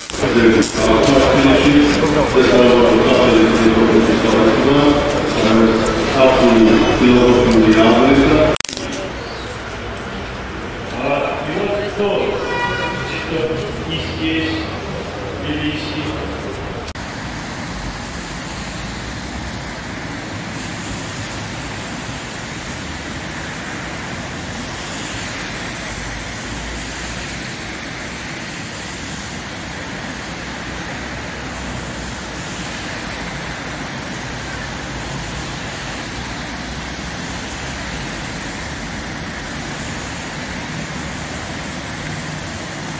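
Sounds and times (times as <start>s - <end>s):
hiss of passing vehicles: 0.0s - 42.9s.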